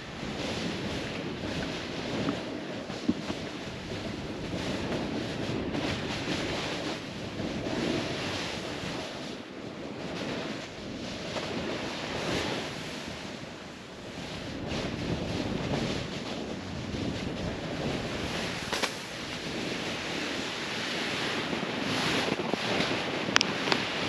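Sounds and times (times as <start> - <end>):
snowboard sliding through snow: 0.0 - 24.0
wind rushing over microphone: 0.0 - 24.0.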